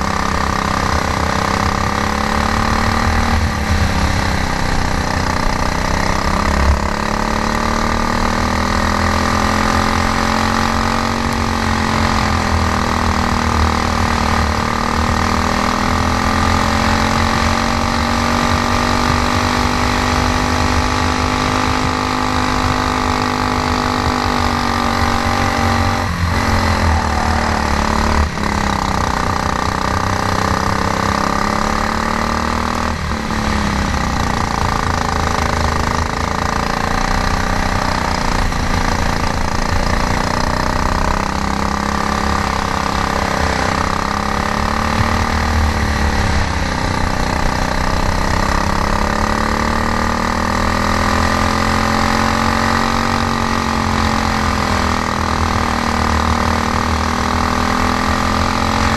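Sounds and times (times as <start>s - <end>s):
kart engine running hard: 0.0s - 58.9s.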